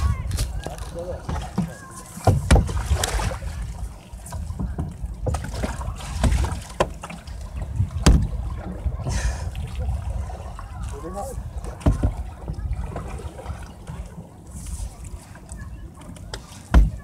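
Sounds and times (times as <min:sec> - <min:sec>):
wind rumble on microphone: 0:00.0 - 0:01.6, 0:02.3 - 0:17.0
water splashing: 0:00.0 - 0:17.0
paddles knocking against canoe hull: 0:00.1 - 0:14.2, 0:15.2 - 0:17.0.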